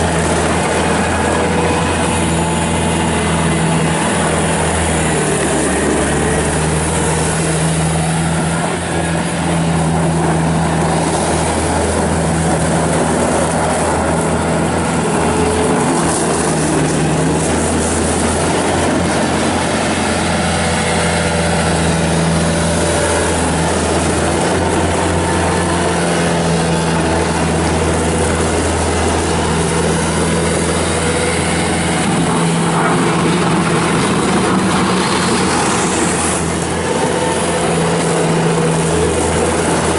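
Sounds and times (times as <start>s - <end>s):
loader diesel engine running: 0.0s - 39.9s.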